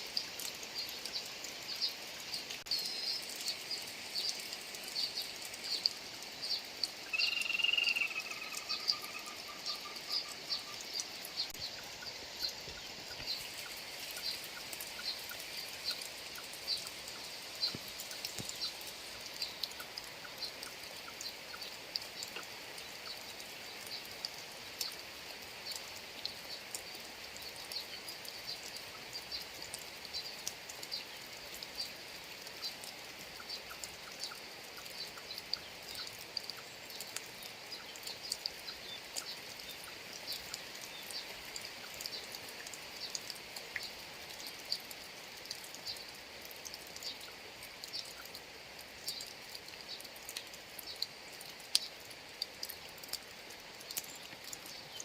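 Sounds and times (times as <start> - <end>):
rain drops pattering: 0.0 - 55.0.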